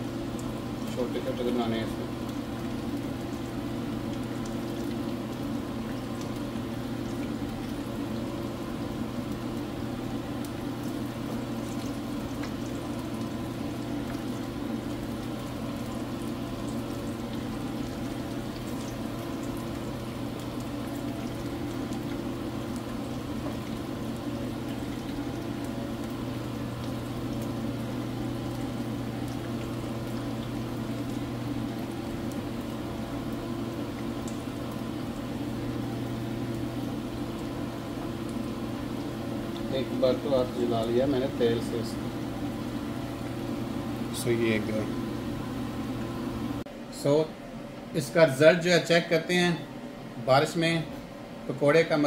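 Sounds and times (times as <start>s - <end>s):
batter sizzling in hot oil: 0.0s - 46.6s
steady low hum: 0.0s - 52.0s.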